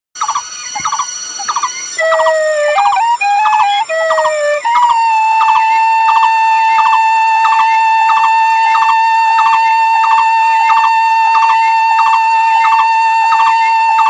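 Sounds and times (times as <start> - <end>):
melody of held notes: 0.6 - 14.0.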